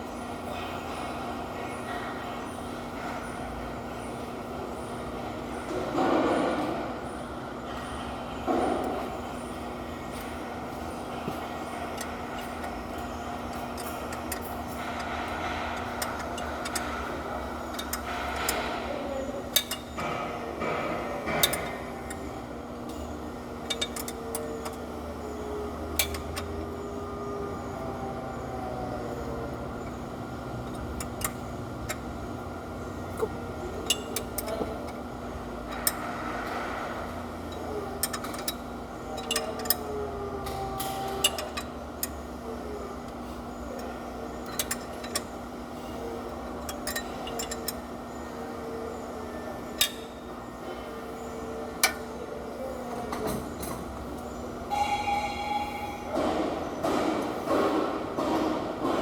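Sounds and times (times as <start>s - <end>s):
faint voices: 0.0s - 7.0s, 7.7s - 59.0s
steady mechanical hum: 0.0s - 59.0s.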